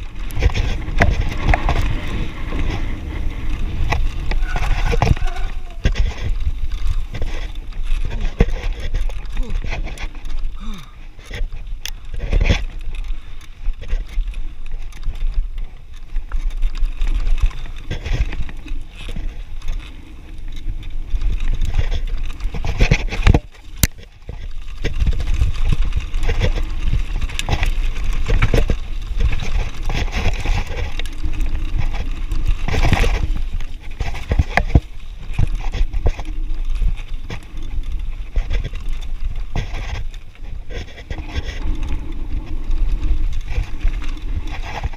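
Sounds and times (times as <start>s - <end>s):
bike knocks and rattles: 0.0s - 44.9s
tyres crunching over gravel: 0.0s - 44.9s
wind rumble on microphone: 0.0s - 44.9s.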